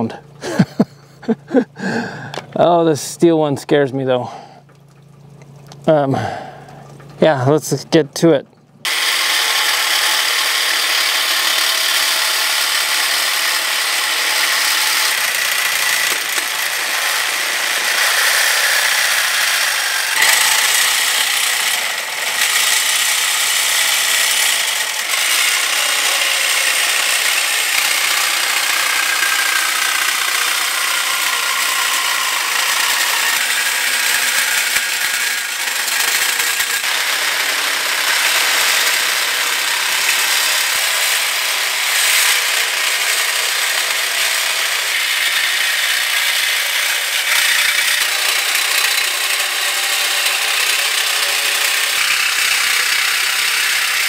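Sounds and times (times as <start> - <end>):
reciprocating saw cutting metal: 8.8 - 54.0.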